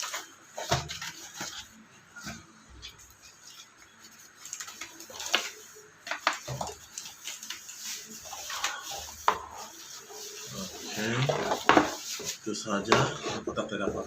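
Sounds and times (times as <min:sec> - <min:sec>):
cardboard and paper rustling: 0:00.0 - 0:14.0.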